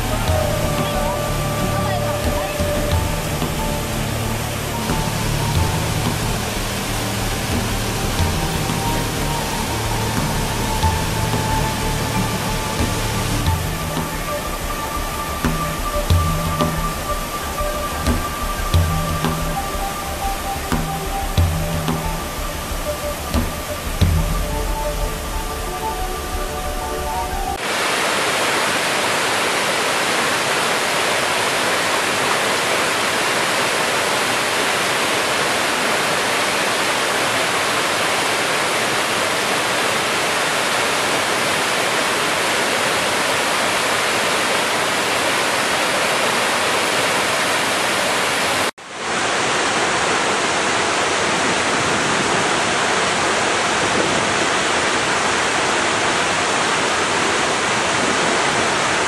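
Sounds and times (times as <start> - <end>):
waterfall crashing into pool: 0.0 - 59.0.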